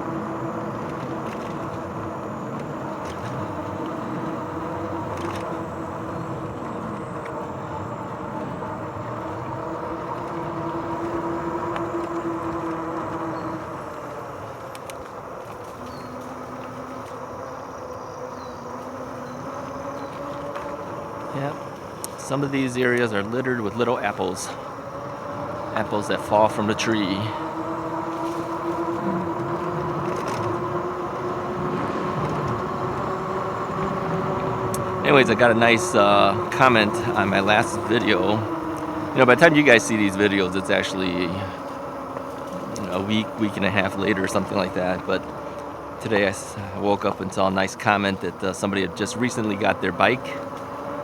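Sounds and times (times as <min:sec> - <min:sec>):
electric motor whine: 0:00.0 - 0:51.0
low hum: 0:00.0 - 0:51.0
tyres rolling over leaves: 0:00.0 - 0:51.0.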